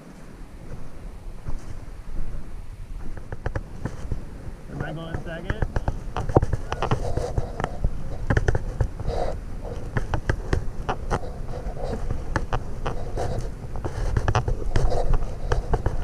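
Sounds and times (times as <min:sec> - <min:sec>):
wind buffeting the microphone: 0:00.0 - 0:16.0
scattered clicks and knocks: 0:03.0 - 0:16.0.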